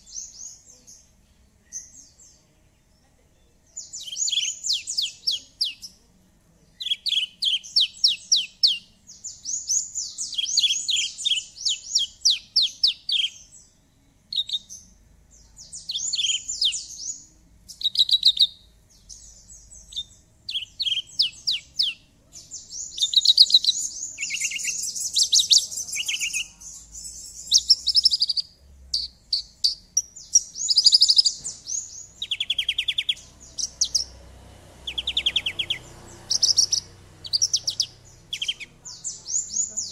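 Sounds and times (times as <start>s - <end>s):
lark singing: 3.8s - 6.0s, 6.8s - 34.2s, 34.8s - 39.9s.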